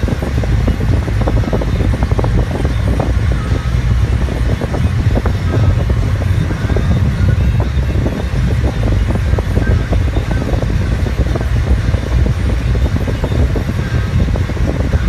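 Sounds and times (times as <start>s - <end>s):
tyre and wind noise inside car: 0.0s - 15.0s.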